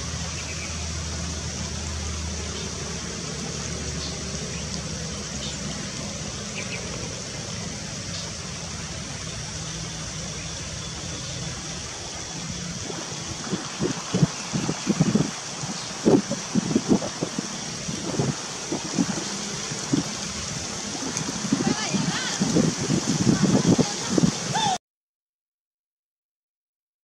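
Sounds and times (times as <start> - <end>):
stream water rushing: 0.0 - 24.8.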